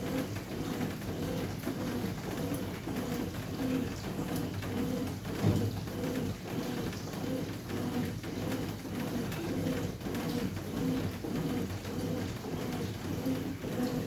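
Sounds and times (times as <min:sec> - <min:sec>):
washing machine agitating: 0:00.0 - 0:14.0.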